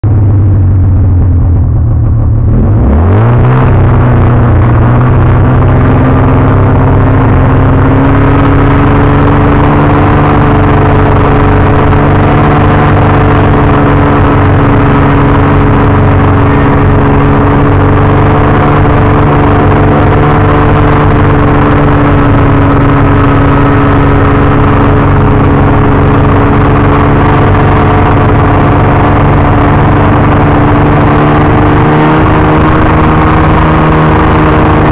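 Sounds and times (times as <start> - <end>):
snowmobile engine revving: 2.4 - 34.9.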